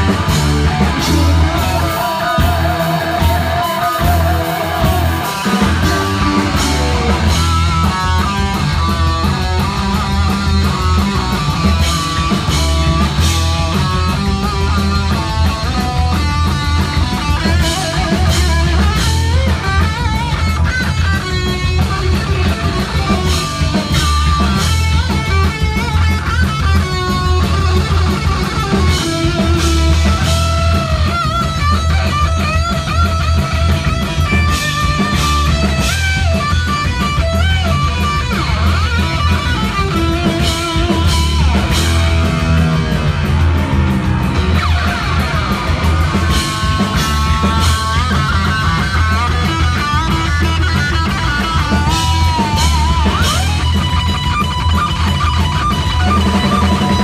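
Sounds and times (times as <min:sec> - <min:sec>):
distorted electric lead guitar: 0:00.0 - 0:57.0
heavy metal band playing live: 0:00.0 - 0:57.0.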